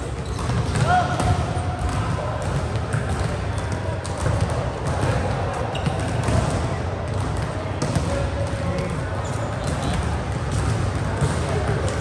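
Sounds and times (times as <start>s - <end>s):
volleyballs hit and bouncing: 0.0s - 12.0s.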